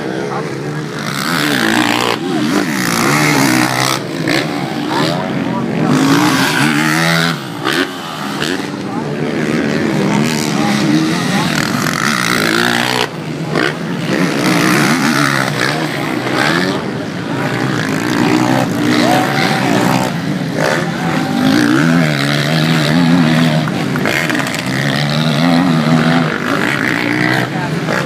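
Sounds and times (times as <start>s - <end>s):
motocross bikes revving: 0.0s - 28.0s.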